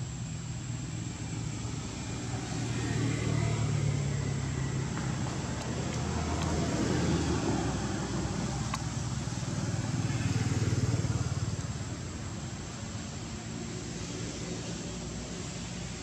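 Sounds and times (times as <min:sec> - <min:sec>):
passing vehicle engine rumble: 0:00.0 - 0:16.0.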